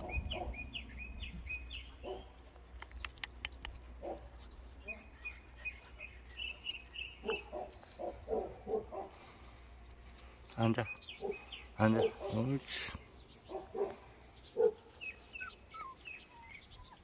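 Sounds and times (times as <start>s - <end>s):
soft low dog noises: 0.0s - 10.0s, 11.1s - 17.0s.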